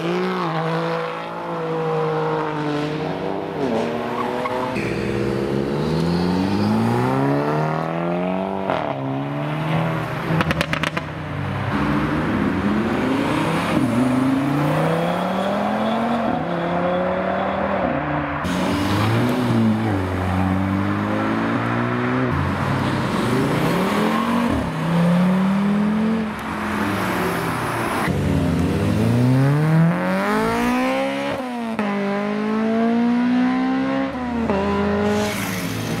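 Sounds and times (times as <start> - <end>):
cars accelerating hard: 0.0 - 36.0.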